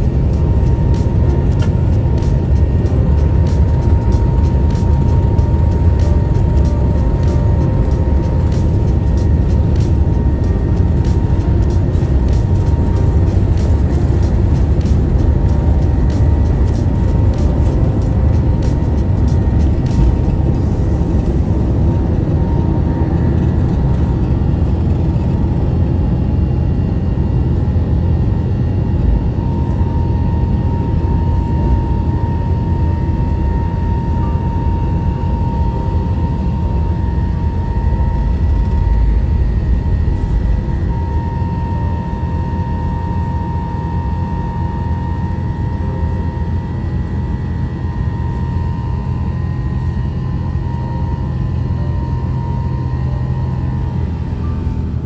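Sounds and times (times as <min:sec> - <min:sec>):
jet engine and airflow rumble: 0:00.0 - 0:55.0
thin steady whine: 0:00.0 - 0:55.0.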